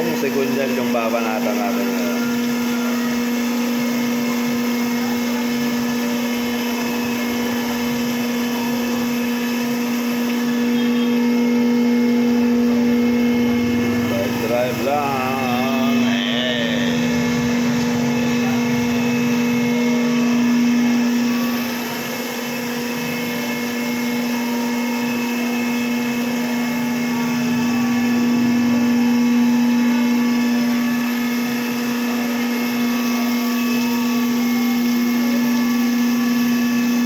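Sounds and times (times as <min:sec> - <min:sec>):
machinery humming: 0:00.0 - 0:37.0.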